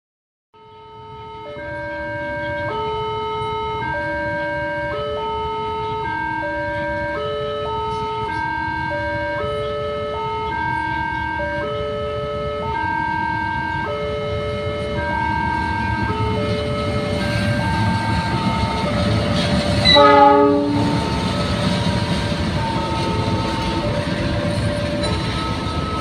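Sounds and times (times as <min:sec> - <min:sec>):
level crossing alarm tone: 0:00.6 - 0:26.0.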